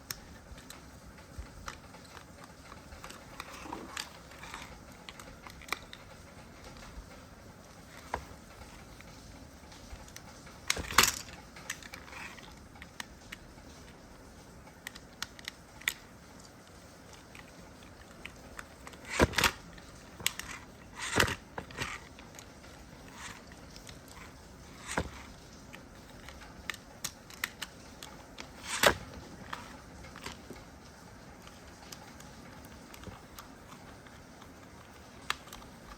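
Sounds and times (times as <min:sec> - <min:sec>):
faint steady background: 0:00.0 - 0:35.9.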